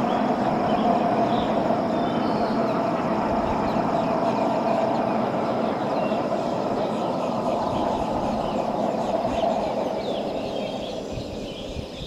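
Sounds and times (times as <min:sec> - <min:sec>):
birds chirping: 0:00.0 - 0:12.0
train rail noise: 0:00.0 - 0:12.0.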